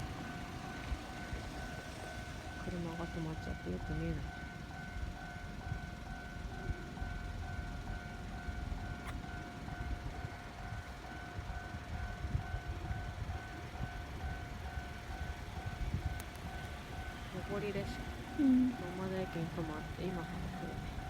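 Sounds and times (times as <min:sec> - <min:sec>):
level-crossing alarm ringing: 0:00.0 - 0:21.0.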